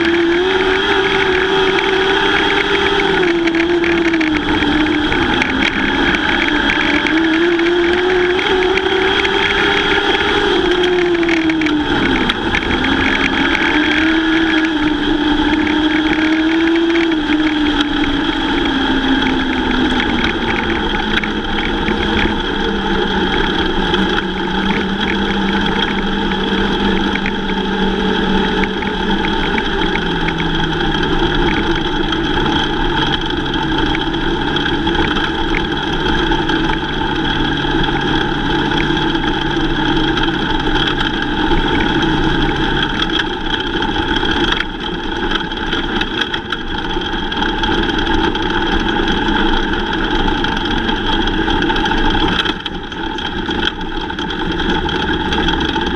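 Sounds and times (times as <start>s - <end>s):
racing car engines droning: 0.0s - 55.9s.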